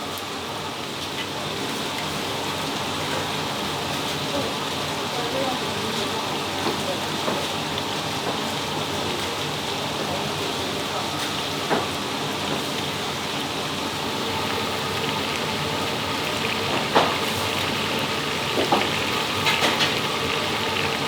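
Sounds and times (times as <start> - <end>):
patties sizzling in oil: 0.0 - 21.0.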